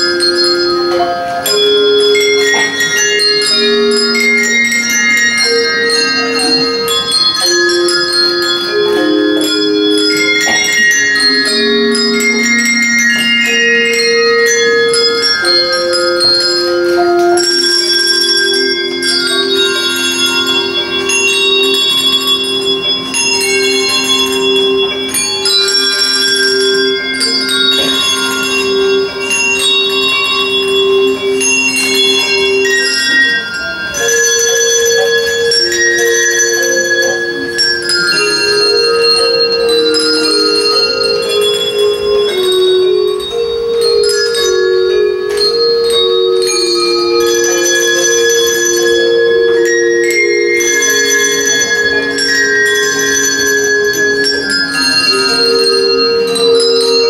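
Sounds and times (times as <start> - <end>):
handbells playing a tune: 0.0 - 57.0.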